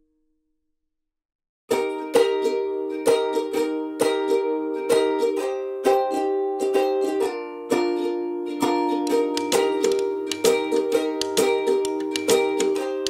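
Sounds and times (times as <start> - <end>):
plucked string instrument chords: 1.7 - 13.0.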